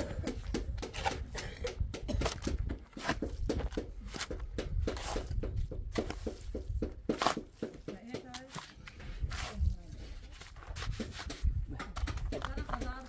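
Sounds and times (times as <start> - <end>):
shovel scraping wet mortar: 2.2 - 12.8.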